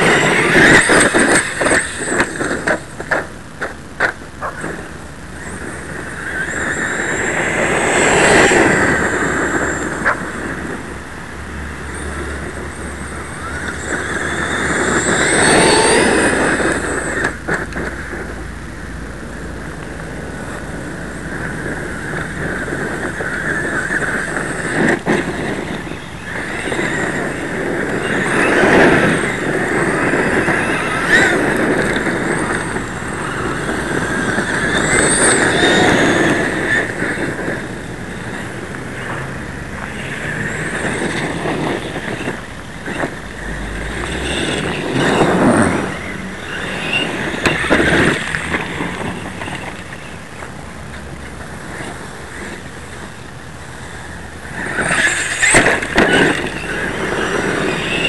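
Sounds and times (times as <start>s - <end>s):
rc truck motor whine: 0.0s - 58.0s
tires on dirt and gravel: 0.0s - 58.0s.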